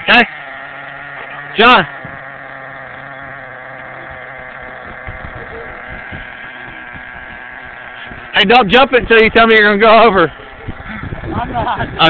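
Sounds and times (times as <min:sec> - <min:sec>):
model truck engine idling: 0:00.0 - 0:11.2.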